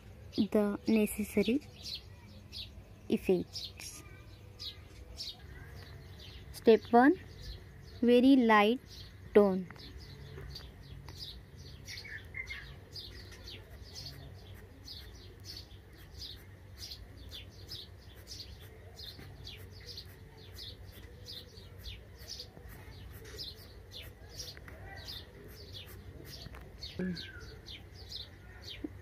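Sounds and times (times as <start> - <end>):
small bird chirping: 0.2 - 29.0.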